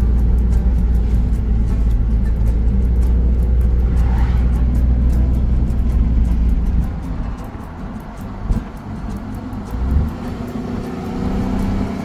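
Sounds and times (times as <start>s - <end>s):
music playing: 0.0s - 12.0s
van engine and road rumble: 0.0s - 12.0s.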